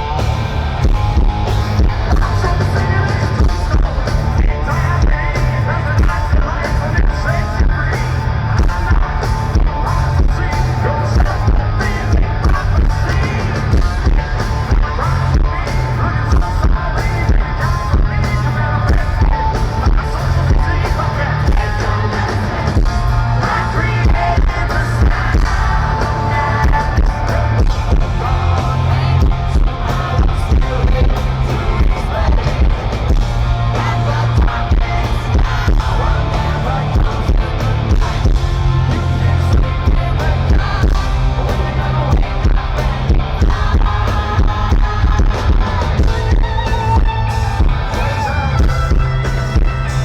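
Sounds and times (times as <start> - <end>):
metal band playing live: 0.0 - 50.0
sung lead vocal: 0.0 - 50.0.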